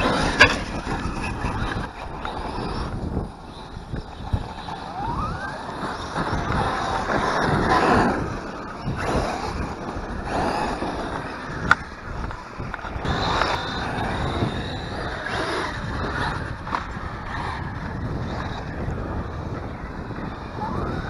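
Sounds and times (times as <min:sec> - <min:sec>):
tyres rolling on concrete: 0:00.0 - 0:20.5.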